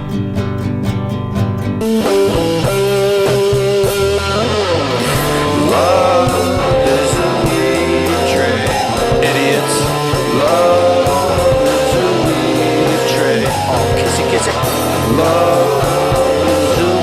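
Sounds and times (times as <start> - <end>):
guitar-led rock music: 0.0 - 17.0.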